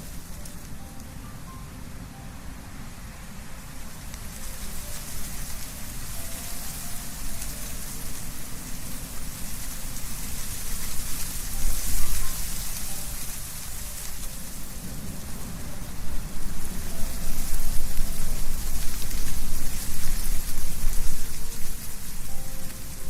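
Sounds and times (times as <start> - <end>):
wind rustling leaves: 0.0 - 23.0.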